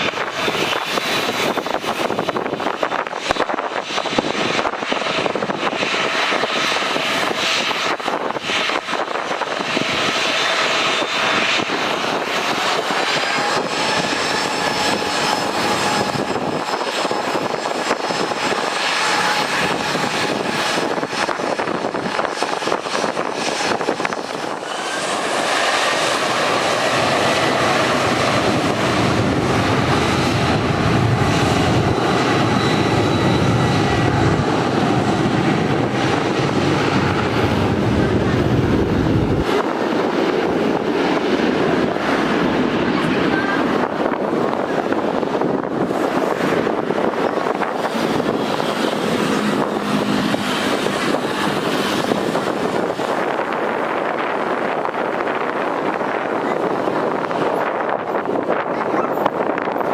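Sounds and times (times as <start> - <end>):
jet engines passing with turbine whine: 0.0 - 59.9.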